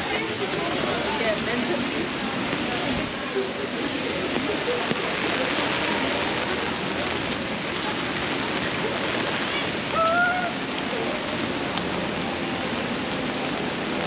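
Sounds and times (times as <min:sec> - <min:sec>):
heavy rain on an umbrella: 0:00.0 - 0:14.0
rain on wet pavement: 0:00.0 - 0:14.0.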